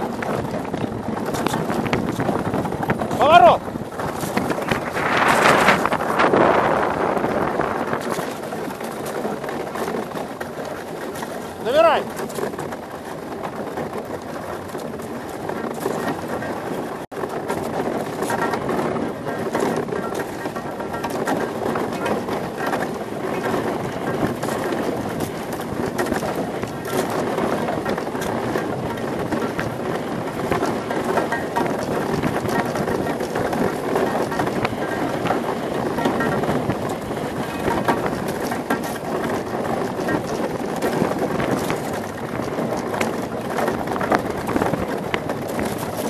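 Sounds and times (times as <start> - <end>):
small knocks and rattles: 0.0 - 46.0
wind and runners on ice: 0.0 - 46.0.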